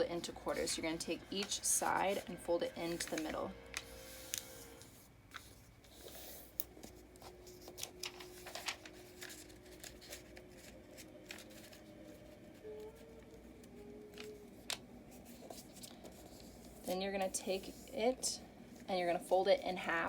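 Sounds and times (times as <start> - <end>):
paper rustling and crackling: 0.2 - 17.9.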